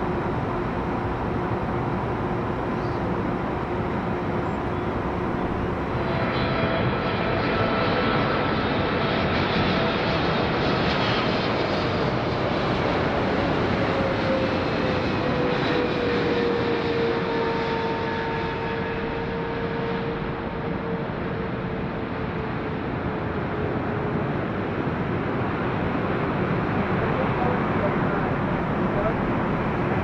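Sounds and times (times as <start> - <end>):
jet airliner flying past: 0.0 - 30.0.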